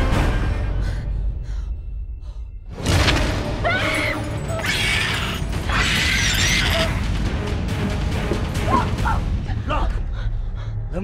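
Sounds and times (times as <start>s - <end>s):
dramatic film score music: 0.0s - 11.0s.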